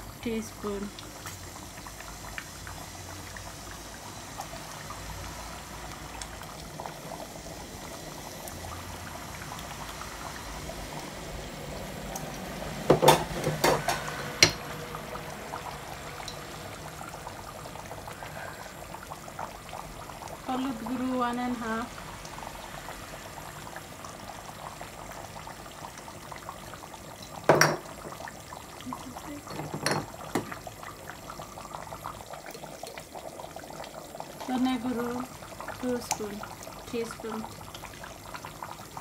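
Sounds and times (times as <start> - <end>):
curry bubbling in pot: 0.0 - 39.0.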